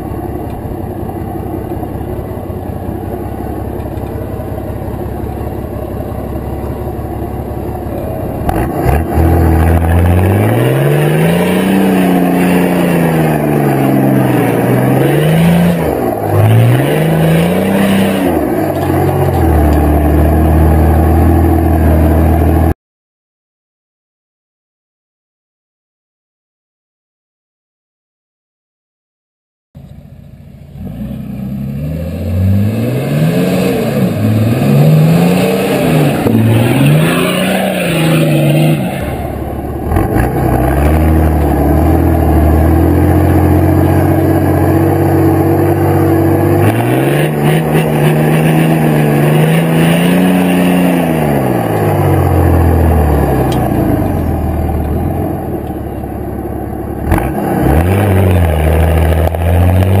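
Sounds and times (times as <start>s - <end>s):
vehicle engine revving: 0.0s - 22.8s, 30.0s - 60.0s.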